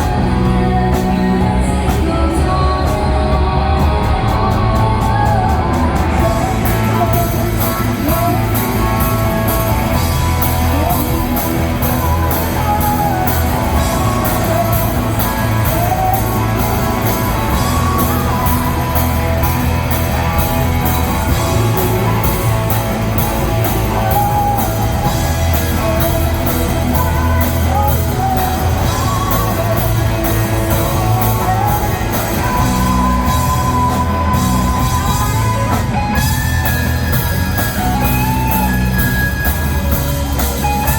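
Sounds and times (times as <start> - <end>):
person singing: 0.0 - 40.9
rock band playing: 0.0 - 40.9.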